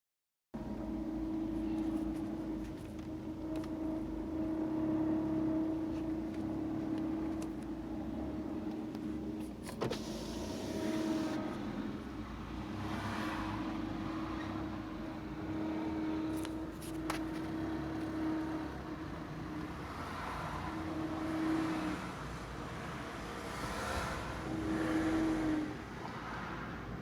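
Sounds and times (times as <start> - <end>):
car running and road noise: 0.6 - 27.0
car whining: 0.6 - 27.0.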